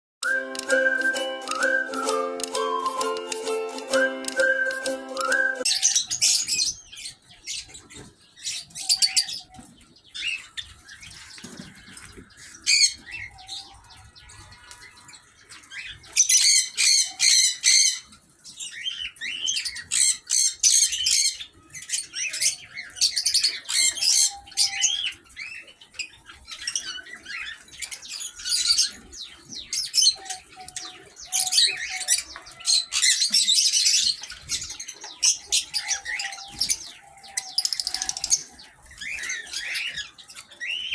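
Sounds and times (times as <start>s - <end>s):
small birds chirping and squawking: 0.4s - 40.9s.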